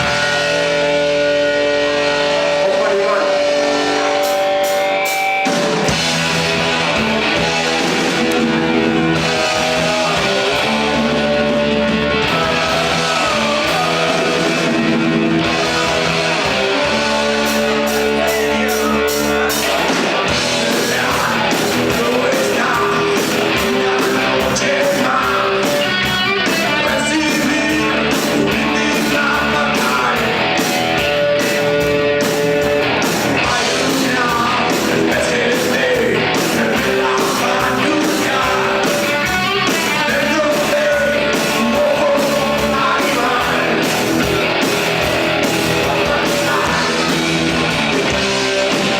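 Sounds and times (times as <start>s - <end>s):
rock music with electric guitar: 0.0s - 48.9s.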